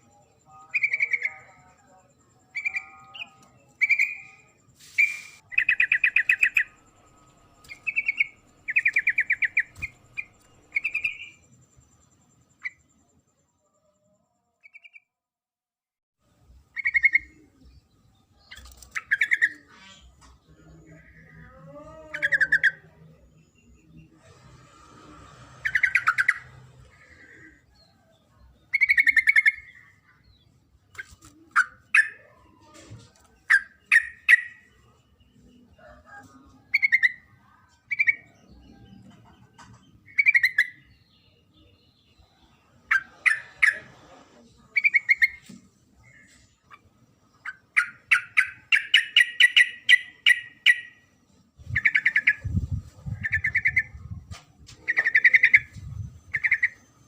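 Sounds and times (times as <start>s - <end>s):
bird chirping: 0.0s - 13.8s, 14.6s - 15.2s, 16.5s - 36.0s, 36.6s - 57.0s.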